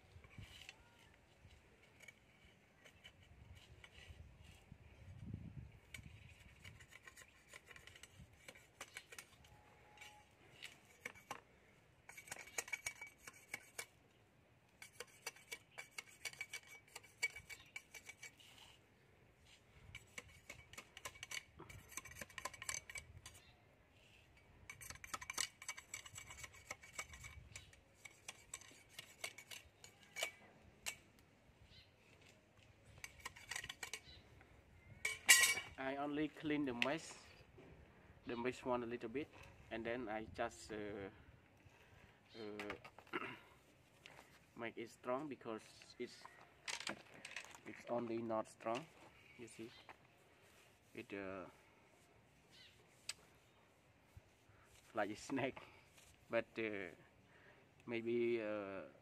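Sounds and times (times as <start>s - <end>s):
scraping and light clicking: 0.0s - 5.0s, 5.8s - 18.8s, 19.4s - 37.6s, 43.8s - 57.0s.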